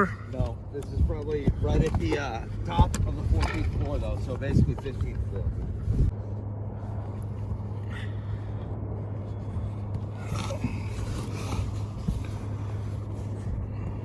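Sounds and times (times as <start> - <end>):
low mechanical hum: 0.0 - 14.0
rumble: 0.0 - 14.0.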